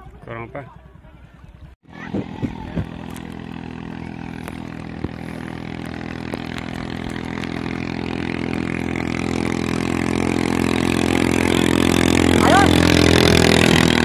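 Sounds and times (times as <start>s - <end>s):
speedboat engine approaching: 1.8s - 14.0s.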